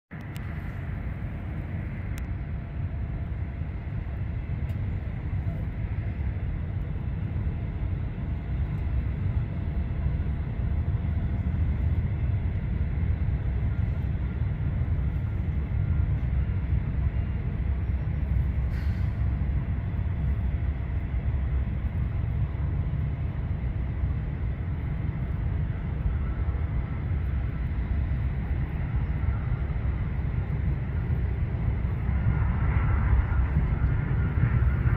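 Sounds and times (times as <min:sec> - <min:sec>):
distant jet engine roar: 0:00.1 - 0:34.9.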